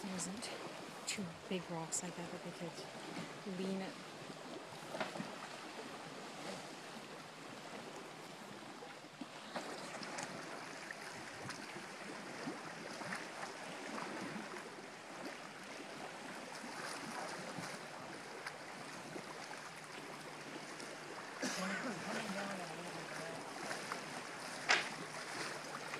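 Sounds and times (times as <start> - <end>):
waves lapping against concrete: 0.0 - 25.9.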